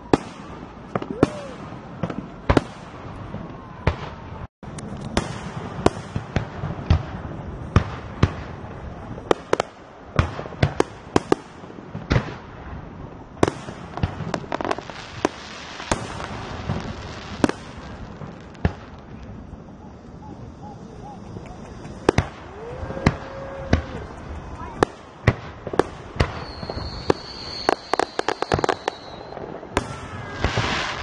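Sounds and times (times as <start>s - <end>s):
fireworks bangs: 0.0s - 31.0s
distant firework bursts: 5.1s - 31.0s.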